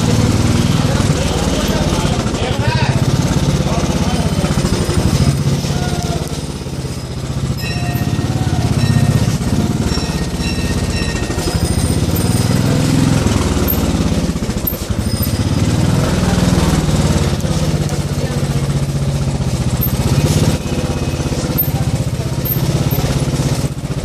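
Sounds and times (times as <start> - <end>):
small motorcycle engine: 0.0 - 24.0.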